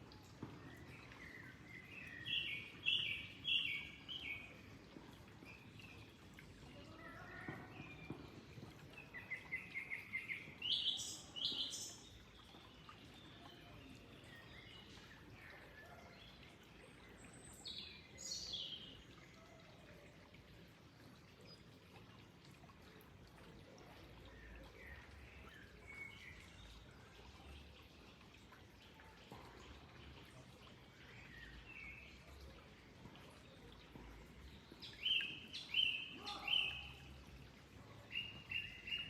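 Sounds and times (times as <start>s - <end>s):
flowing water rushing: 0.0s - 39.0s
songbirds chirping: 0.0s - 39.0s.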